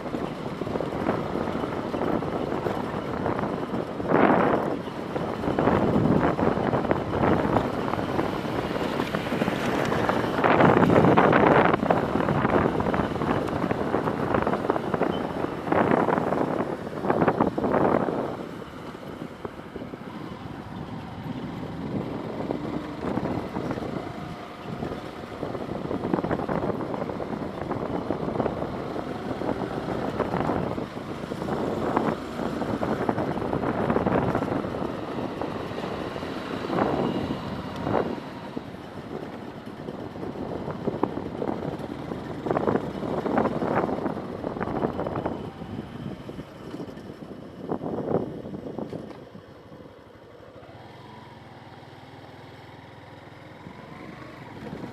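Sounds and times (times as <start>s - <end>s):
wind buffeting microphone: 0.0s - 49.2s, 53.6s - 54.9s
passing motor traffic: 0.0s - 54.9s.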